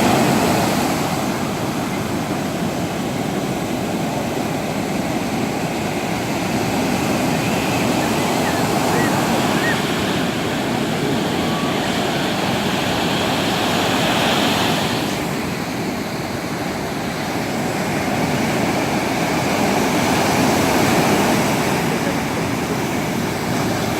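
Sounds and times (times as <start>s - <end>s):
sea surf breaking: 0.0s - 23.9s.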